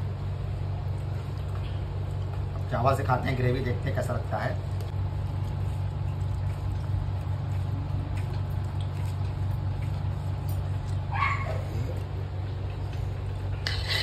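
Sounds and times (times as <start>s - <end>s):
food squishing being mixed by hand: 0.0s - 14.0s
steady low hum: 0.0s - 14.0s.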